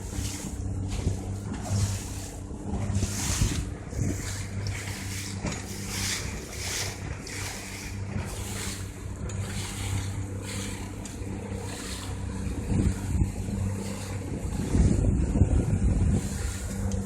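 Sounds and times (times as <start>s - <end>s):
motorboat engine running: 0.0s - 17.0s
water rushing past hull: 0.0s - 17.0s
wind on microphone: 0.0s - 17.0s.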